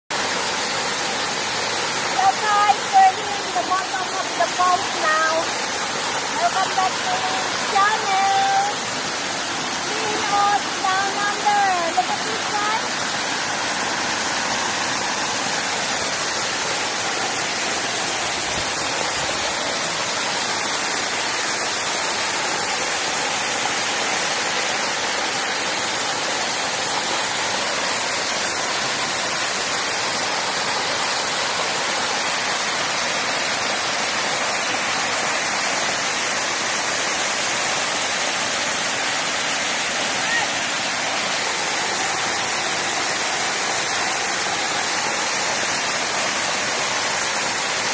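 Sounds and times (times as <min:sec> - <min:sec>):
waterfall rushing onto rocks: 0:00.1 - 0:47.9.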